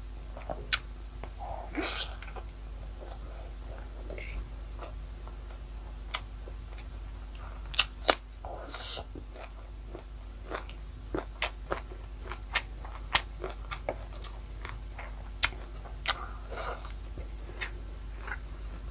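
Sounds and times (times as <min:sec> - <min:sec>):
person chewing with wet mouth sounds: 0:00.4 - 0:18.9.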